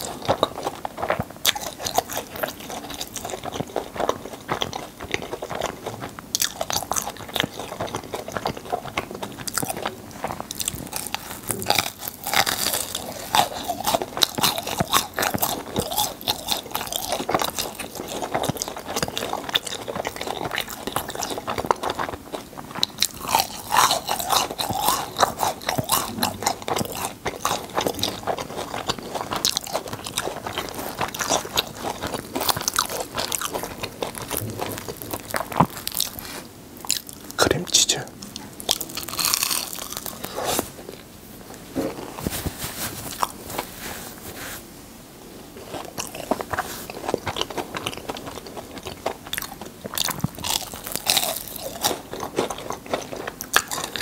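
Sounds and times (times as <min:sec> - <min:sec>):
crunchy food being chewed: 0:00.0 - 0:54.0.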